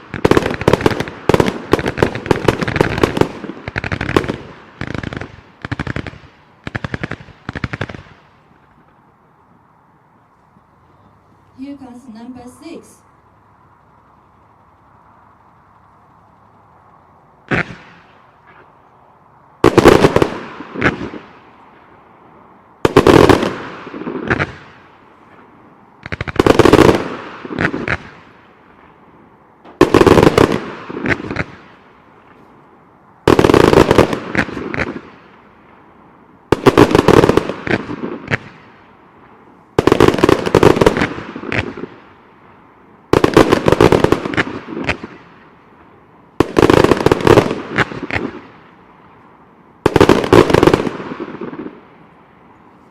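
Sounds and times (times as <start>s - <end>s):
fireworks volleys firing: 0.0s - 9.1s, 14.8s - 18.9s, 19.6s - 22.0s, 22.8s - 29.0s, 29.6s - 32.6s, 33.2s - 49.0s, 49.8s - 52.0s.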